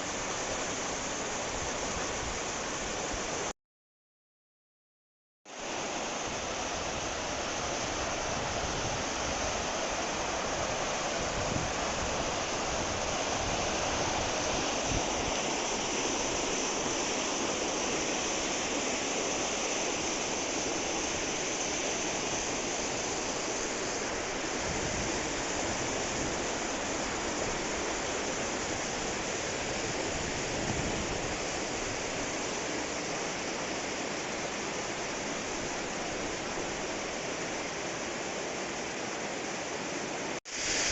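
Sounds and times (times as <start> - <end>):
mountain stream rushing: 0.0 - 3.5, 5.5 - 40.9.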